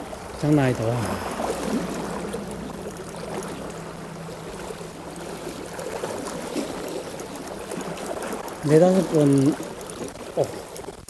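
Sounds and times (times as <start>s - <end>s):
seawater lapping at shore: 0.0s - 11.0s.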